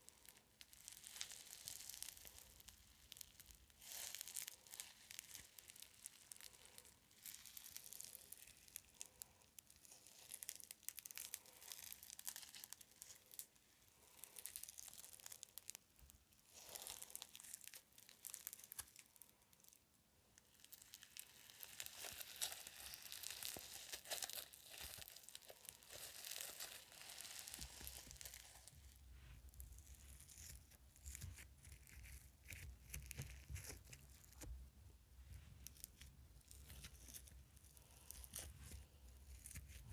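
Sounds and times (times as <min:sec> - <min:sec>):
slime foam crackling: 0:00.0 - 0:19.8, 0:20.4 - 0:34.5, 0:35.2 - 0:39.9.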